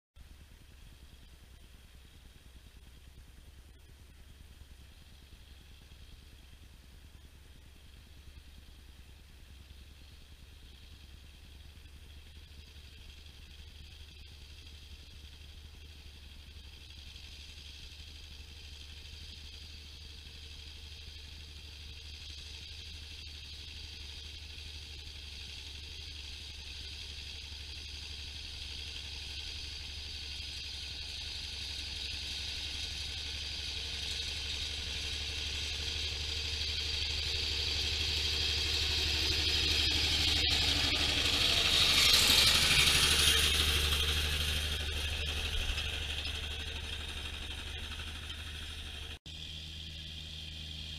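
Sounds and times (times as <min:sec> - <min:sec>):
tractor diesel engine under load: 0:00.2 - 0:50.9.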